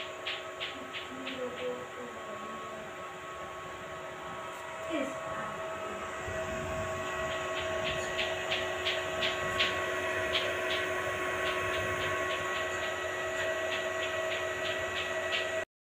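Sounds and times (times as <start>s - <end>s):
welding machine humming: 0.0s - 15.6s.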